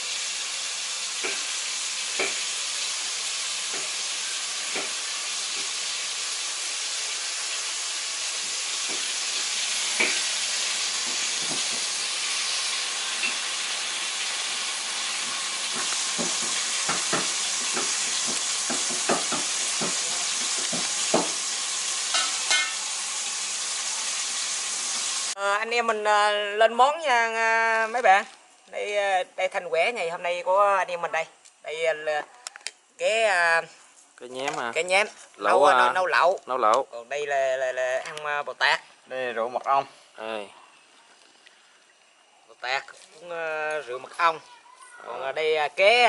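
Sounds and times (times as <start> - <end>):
steady sizzling hiss: 0.0 - 46.0.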